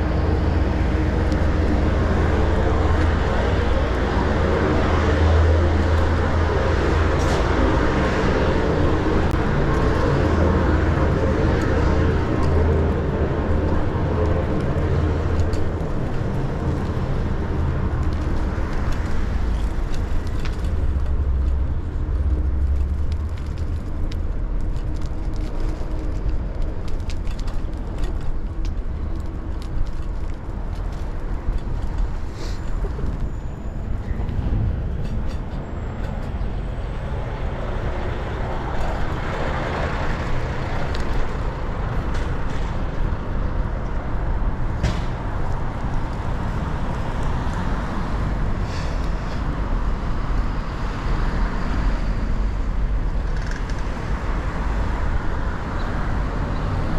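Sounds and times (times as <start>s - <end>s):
deep engine rumble: 0.0s - 51.0s
traffic hum: 0.0s - 56.9s.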